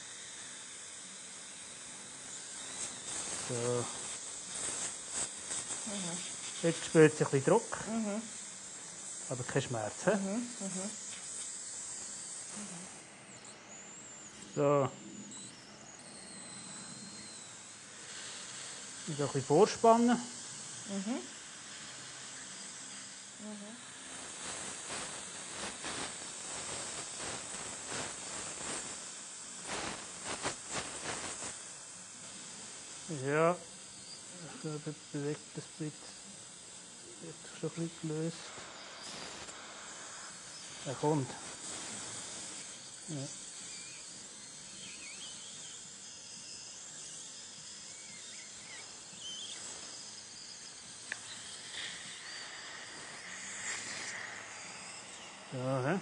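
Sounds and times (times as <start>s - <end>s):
dental suction hissing: 0.0s - 56.0s.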